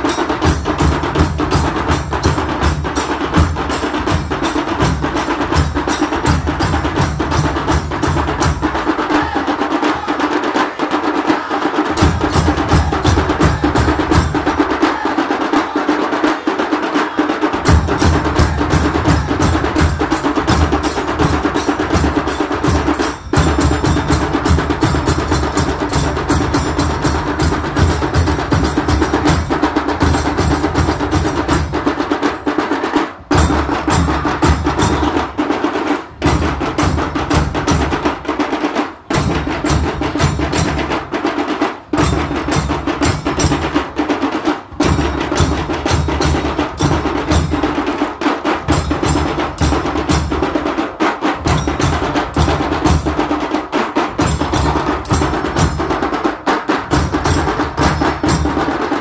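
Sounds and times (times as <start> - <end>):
small drums rapid stick strokes: 0.0 - 15.8, 17.5 - 59.0.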